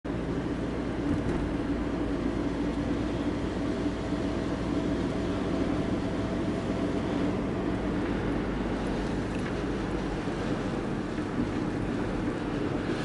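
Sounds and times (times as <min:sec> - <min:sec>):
car engine and tyre noise: 0:00.0 - 0:13.0
constant low hum: 0:00.1 - 0:13.0.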